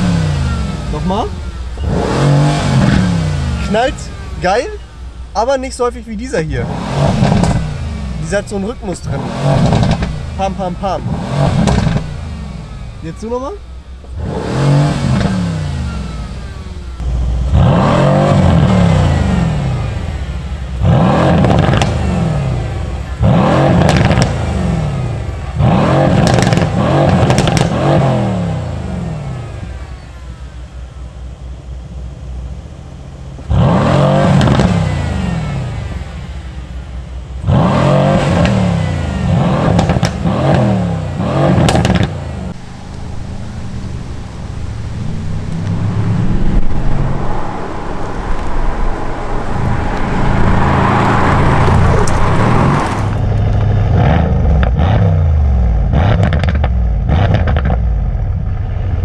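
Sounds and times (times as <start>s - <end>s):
car engine idling: 0.0s - 59.0s
car engine revving: 0.0s - 59.0s
exhaust crackling and popping: 0.0s - 59.0s.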